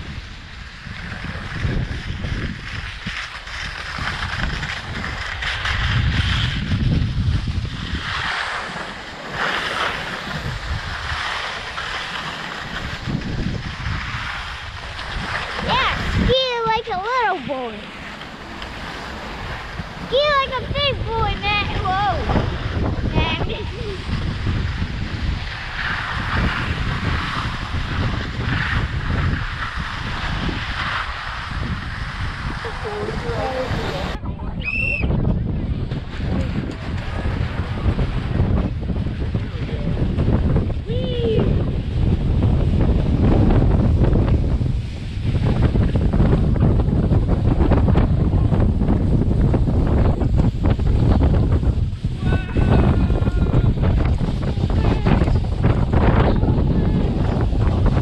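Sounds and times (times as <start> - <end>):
skis scraping over snow: 0.0 - 34.2, 35.6 - 58.0
wind rumbling on microphone: 0.0 - 58.0.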